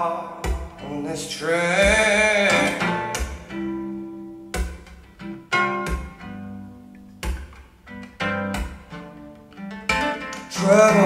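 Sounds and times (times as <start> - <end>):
plucked and strummed guitar: 0.0 - 11.0.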